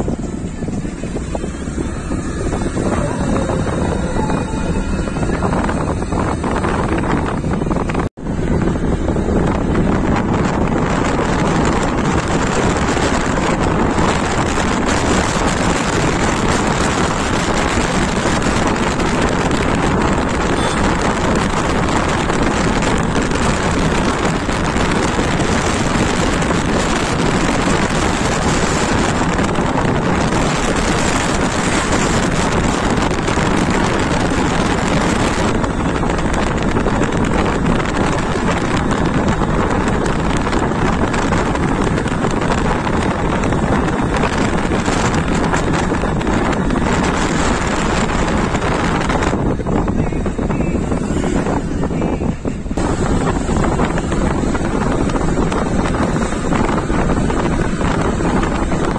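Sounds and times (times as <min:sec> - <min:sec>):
motorbike engine running: 0:00.0 - 0:58.9
wind rushing over microphone: 0:00.0 - 0:58.9.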